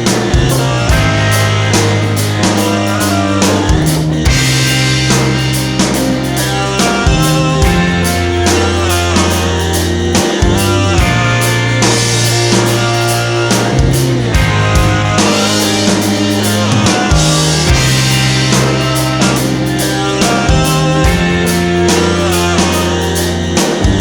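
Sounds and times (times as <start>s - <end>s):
rock music with drums and guitar: 0.0s - 24.0s.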